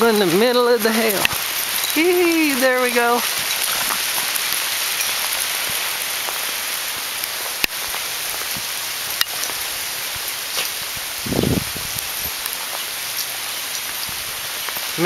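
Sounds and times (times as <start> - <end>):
hail pelting the ground: 0.0 - 15.0.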